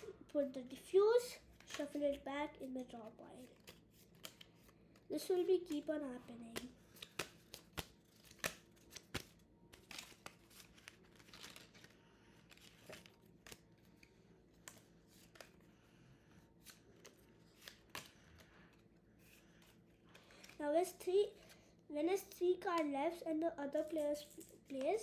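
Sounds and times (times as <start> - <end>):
playing cards tapping and sliding: 1.2 - 21.6.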